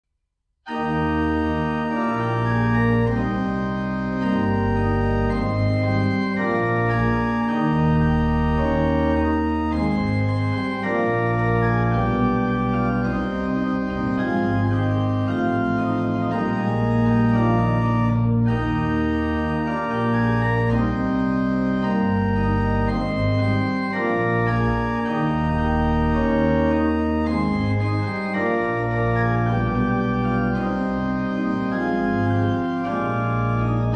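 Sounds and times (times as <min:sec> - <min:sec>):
organ chords over bass notes: 0:00.7 - 0:33.9.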